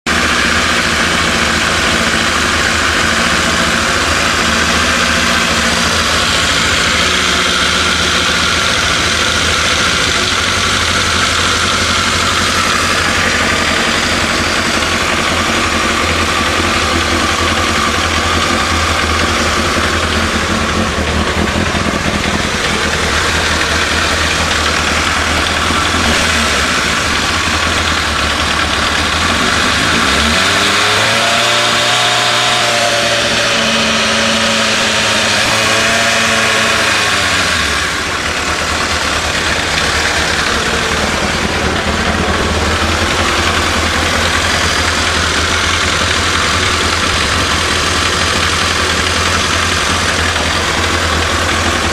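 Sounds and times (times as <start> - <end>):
motorcycle engine idling: 0.1 - 51.9.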